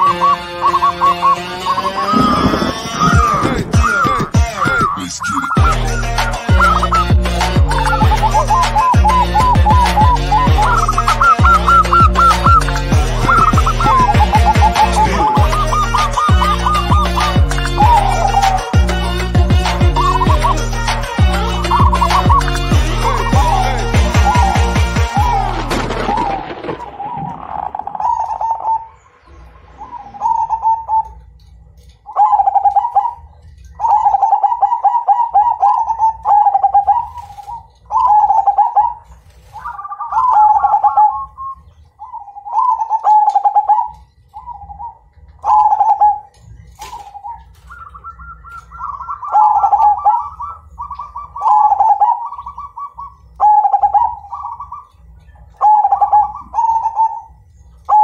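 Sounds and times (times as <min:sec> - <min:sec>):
dove cooing: 0:00.0 - 0:29.1, 0:29.8 - 0:31.4, 0:32.0 - 0:58.0.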